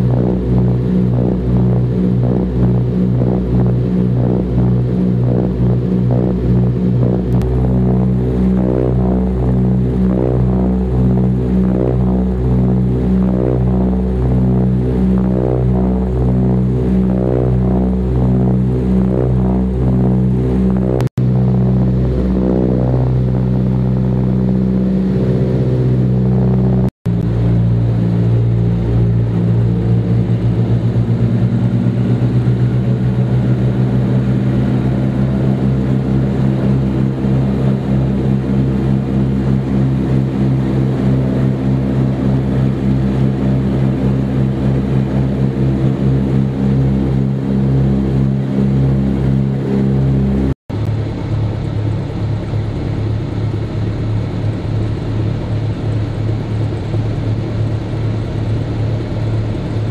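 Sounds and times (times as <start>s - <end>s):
aircraft engines droning in cabin: 0.0s - 59.9s.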